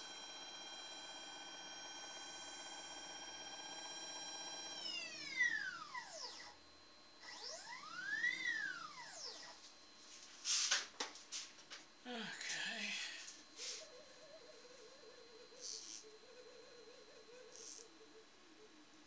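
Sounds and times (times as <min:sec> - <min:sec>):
milling machine motor whining: 0:00.0 - 0:09.8, 0:13.2 - 0:19.0.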